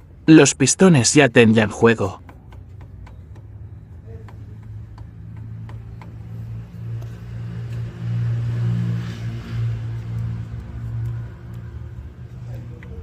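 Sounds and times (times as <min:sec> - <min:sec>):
car engine rumbling: 0:02.0 - 0:13.0.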